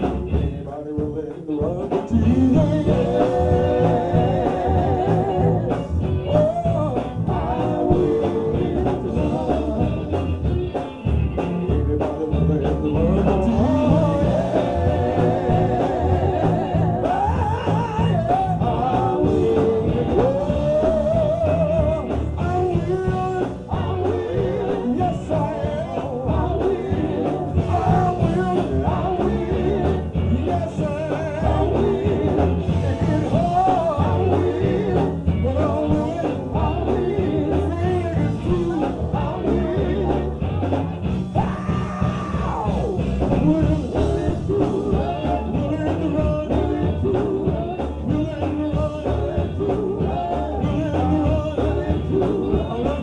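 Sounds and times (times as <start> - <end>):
band with bass and drums: 0.0 - 53.0
gospel singing voices: 0.0 - 53.0.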